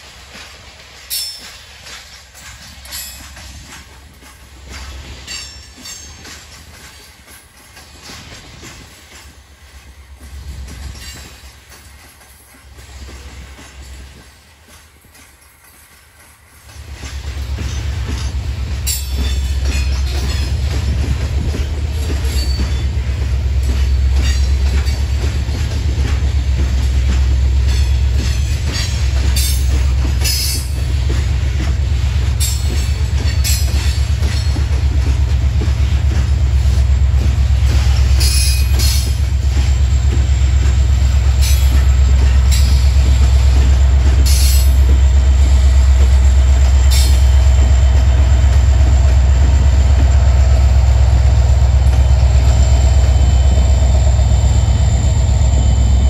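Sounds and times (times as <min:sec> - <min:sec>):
freight train rumbling past: 0:00.0 - 0:56.0
train wheel squeals: 0:00.0 - 0:56.0.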